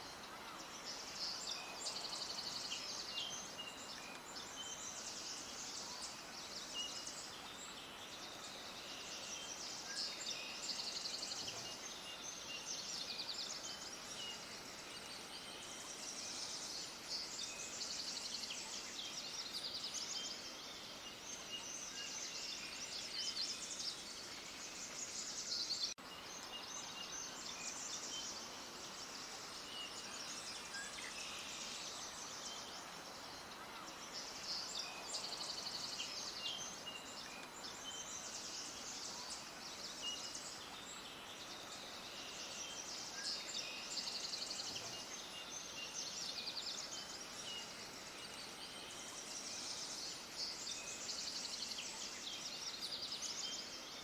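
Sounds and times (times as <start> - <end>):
faint steady hiss: 0.0 - 54.0
small birds chirping: 0.0 - 54.0.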